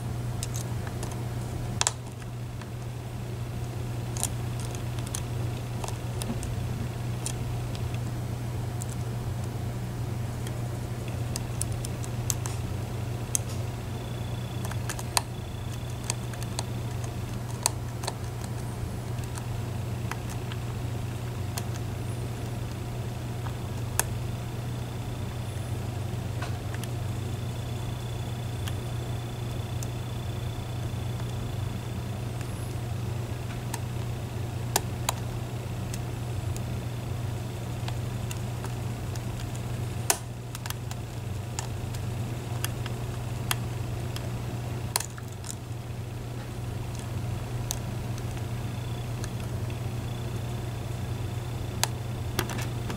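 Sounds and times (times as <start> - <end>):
low background hum: 0.0 - 52.9.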